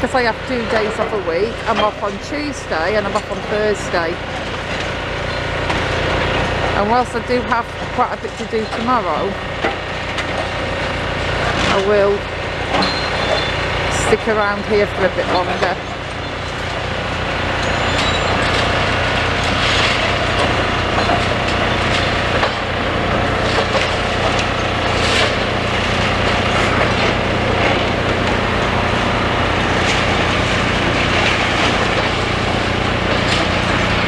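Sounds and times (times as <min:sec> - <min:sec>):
excavator diesel engines running: 0:00.0 - 0:34.0.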